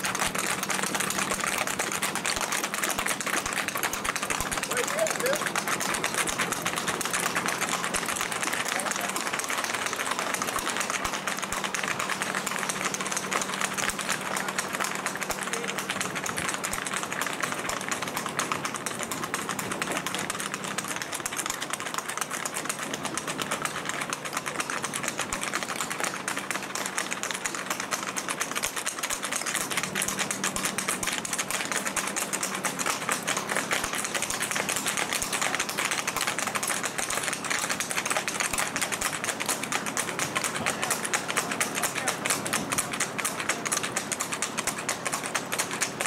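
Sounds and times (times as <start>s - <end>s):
horse hooves on asphalt: 0.0s - 46.0s.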